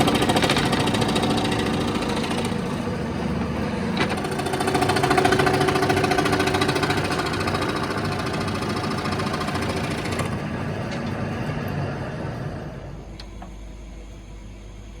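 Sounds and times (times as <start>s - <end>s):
woodworking power tool buzzing: 0.0s - 13.4s.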